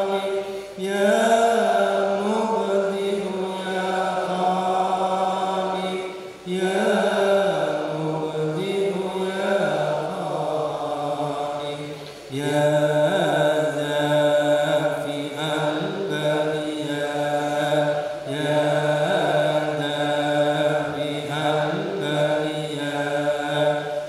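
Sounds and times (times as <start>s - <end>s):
man chanting: 0.0s - 24.0s.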